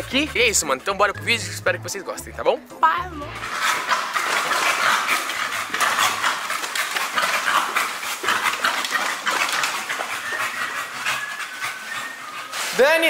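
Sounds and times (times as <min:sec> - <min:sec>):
large dog panting: 0:00.0 - 0:01.1, 0:03.4 - 0:12.8.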